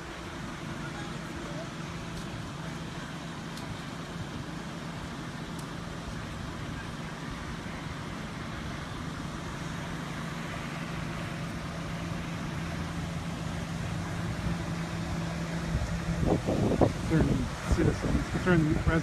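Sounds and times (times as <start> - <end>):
car engine idling: 0.0 - 19.0
wet street hiss: 0.0 - 19.0.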